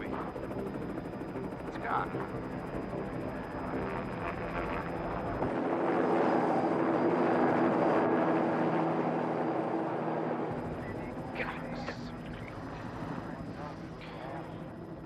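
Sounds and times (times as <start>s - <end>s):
helicopter engine and rotors: 0.0s - 15.0s.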